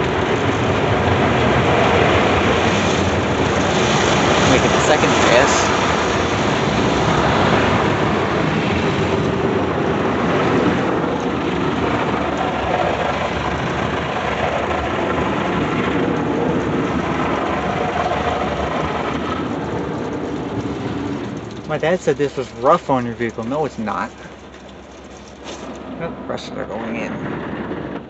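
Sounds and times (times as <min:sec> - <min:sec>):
car wash water spraying on car: 0:00.0 - 0:26.2.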